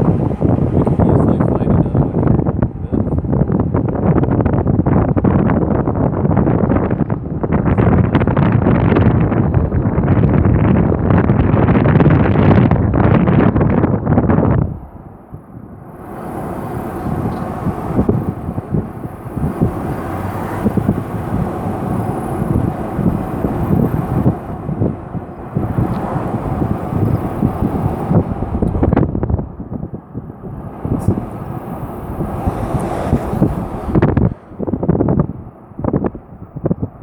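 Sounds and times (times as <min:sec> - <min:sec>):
gusting wind buffeting microphone: 0:00.0 - 0:37.0
vehicle rumble: 0:00.0 - 0:37.0.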